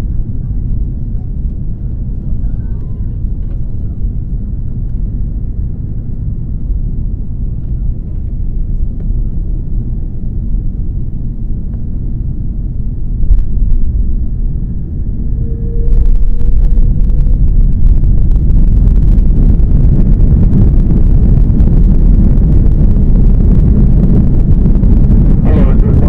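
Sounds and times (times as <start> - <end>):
airplane cabin rumble: 0.0 - 26.0
steady hum: 0.0 - 26.0.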